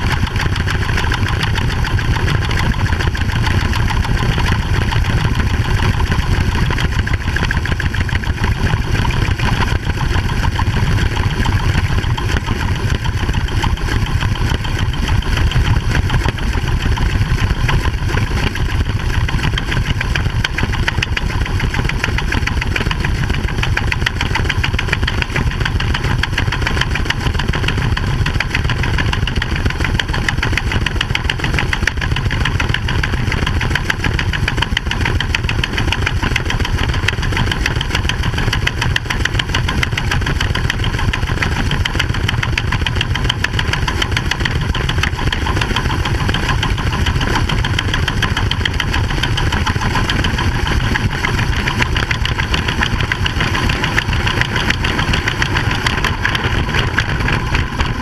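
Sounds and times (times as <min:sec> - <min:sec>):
harvester engine and grain auger: 0:00.0 - 0:58.0.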